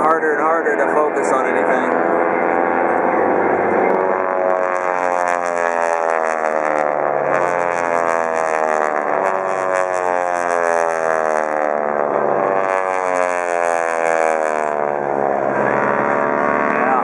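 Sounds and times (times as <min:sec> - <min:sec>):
propeller aircraft flying overhead: 0:00.0 - 0:17.0.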